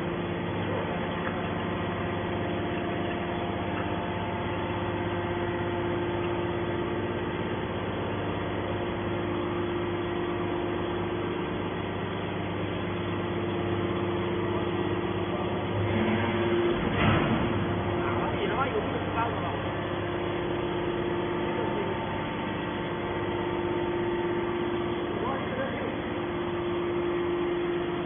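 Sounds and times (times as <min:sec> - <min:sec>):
hydraulic baler machine hum: 0:00.0 - 0:28.0.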